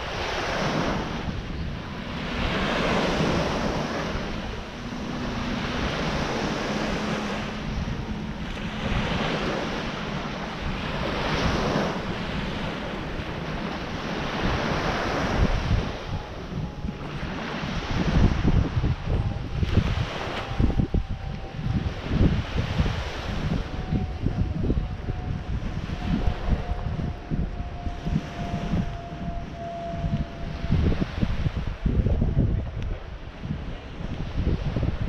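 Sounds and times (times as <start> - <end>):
ocean surf on a beach: 0.0 - 35.0
wind buffeting the microphone: 0.0 - 35.0.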